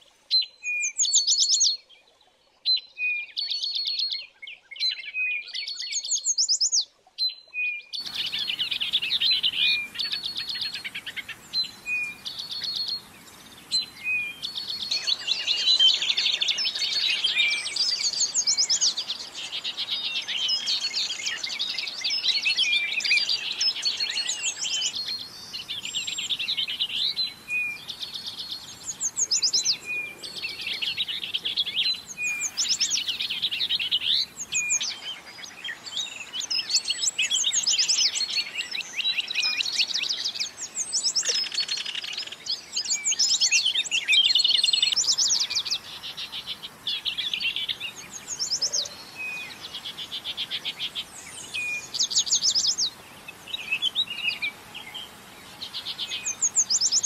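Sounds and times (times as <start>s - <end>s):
songbirds chirping and singing: 0.4s - 57.0s
faint steady hiss: 8.0s - 57.0s.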